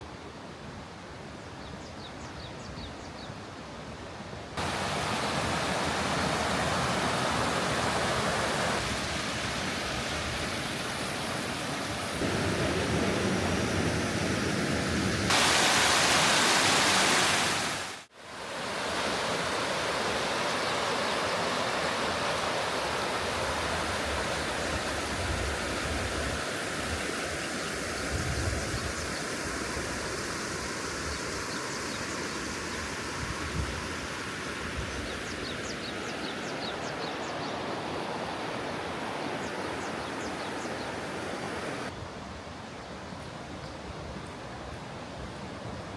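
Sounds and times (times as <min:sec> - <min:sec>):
mountain stream rushing: 0:04.2 - 0:45.9.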